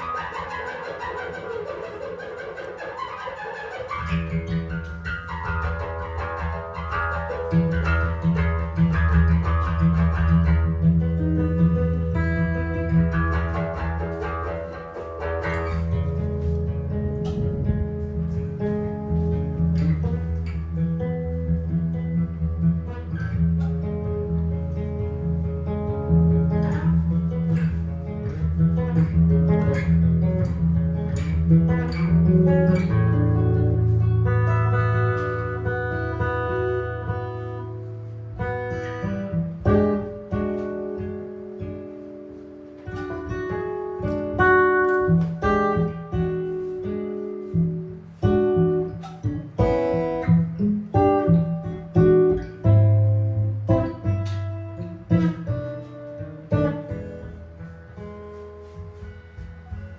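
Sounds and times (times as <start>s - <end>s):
jazz guitar playing: 0.0s - 59.9s.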